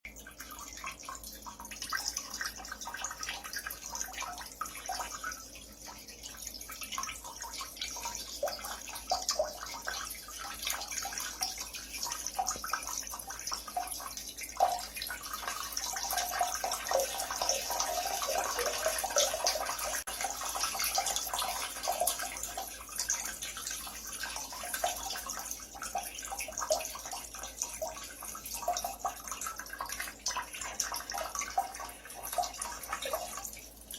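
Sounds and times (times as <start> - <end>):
urine splashing into toilet water: 0.1 - 33.9.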